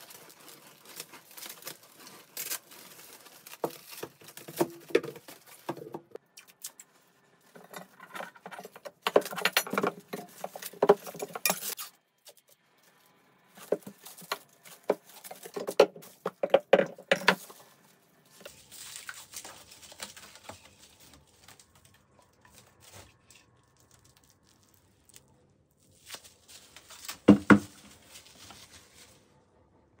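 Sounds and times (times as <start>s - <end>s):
plastic film crackling and rustling: 0.0s - 6.2s, 6.8s - 29.3s.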